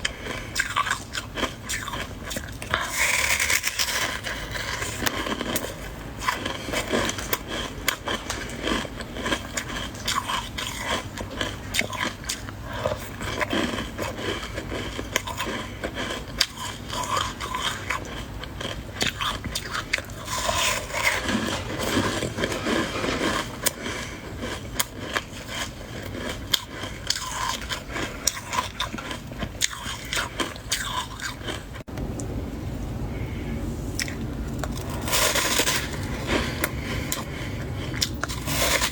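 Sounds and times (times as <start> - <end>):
chewing crunchy ice: 0.0 - 31.9, 33.9 - 38.9.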